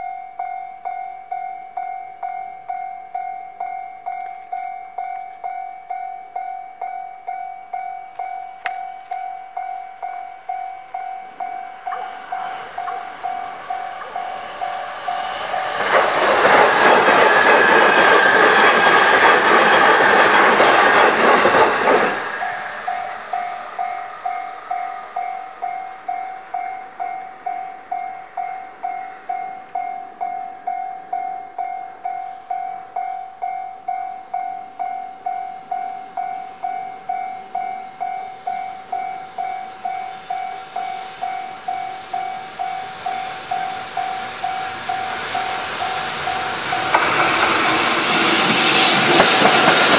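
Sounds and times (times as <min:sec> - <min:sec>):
railway crossing bell ringing: 0:00.0 - 0:49.9
train passing over crossing: 0:00.0 - 0:49.9.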